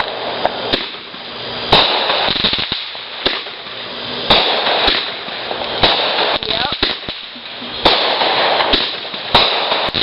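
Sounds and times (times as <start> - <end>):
firework bangs: 0.0 - 10.0
firework pops and crackling: 0.0 - 10.0.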